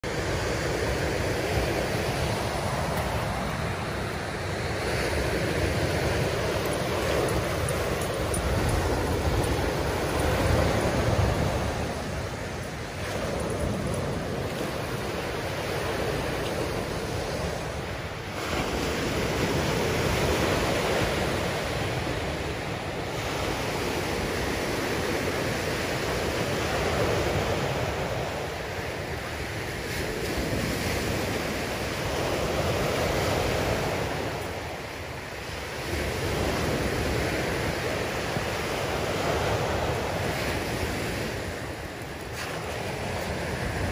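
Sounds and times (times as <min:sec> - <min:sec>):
surf breaking on beach: 0:00.0 - 0:43.9.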